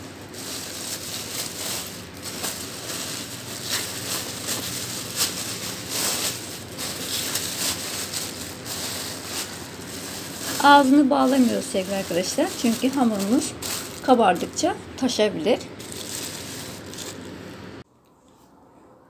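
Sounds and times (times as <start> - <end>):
plastic bag rustling and crinkling: 0.0 - 17.5.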